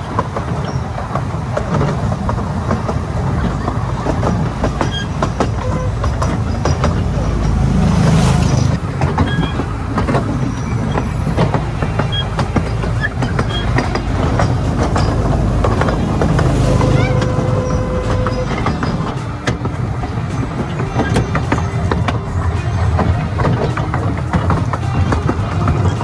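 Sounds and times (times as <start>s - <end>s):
trolley train rumbling on rails: 0.0s - 26.0s
wheels clicking over track: 0.0s - 26.0s.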